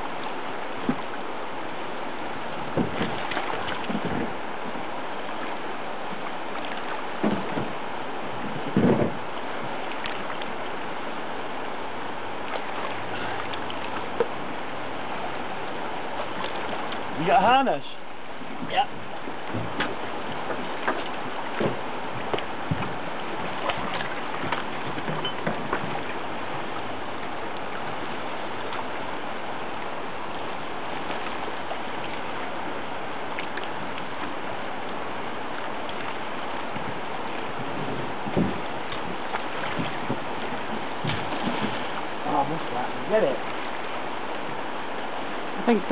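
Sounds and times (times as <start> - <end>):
river current rushing: 0.0 - 45.9
wind on microphone: 0.0 - 45.9.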